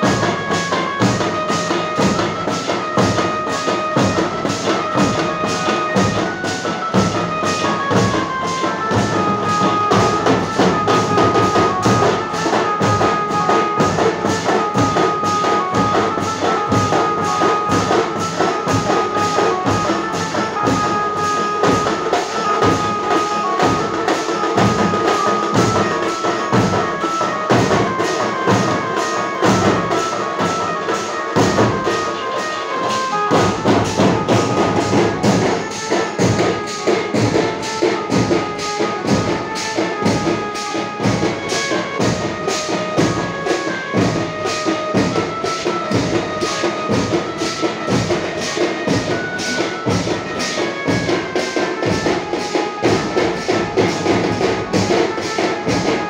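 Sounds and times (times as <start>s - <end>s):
processional band music: 0.0s - 56.0s.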